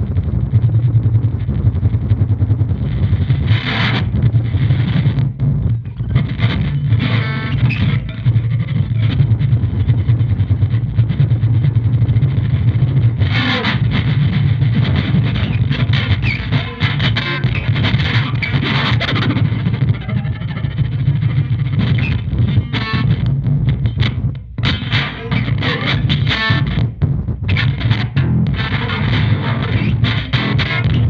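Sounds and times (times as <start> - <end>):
electric guitar noise drone: 0.0 - 31.0.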